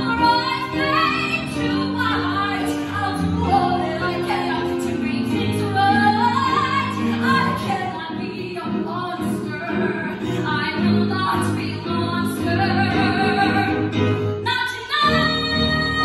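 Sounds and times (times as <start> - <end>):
instrumental accompaniment: 0.0 - 16.0
woman singing a ballad: 0.0 - 16.0.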